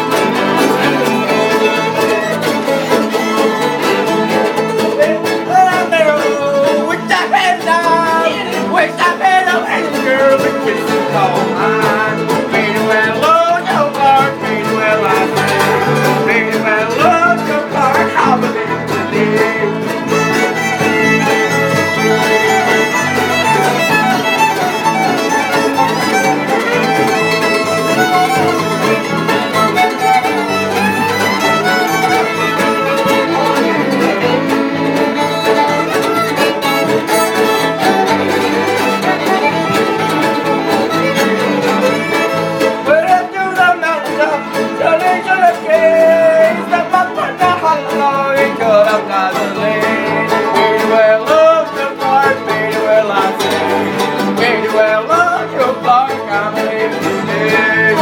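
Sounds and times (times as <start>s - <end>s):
fiddle melody: 0.0s - 58.0s
strummed guitar: 0.0s - 58.0s.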